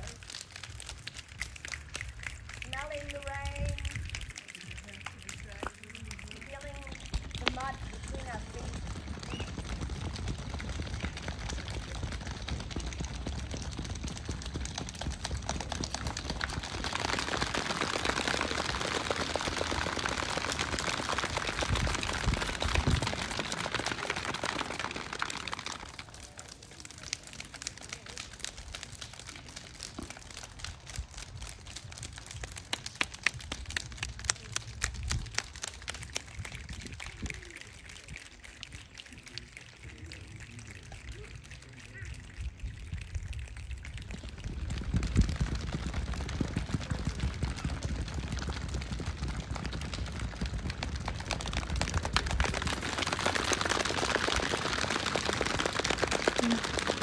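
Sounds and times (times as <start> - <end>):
rain pattering on hard surface: 0.0 - 57.0.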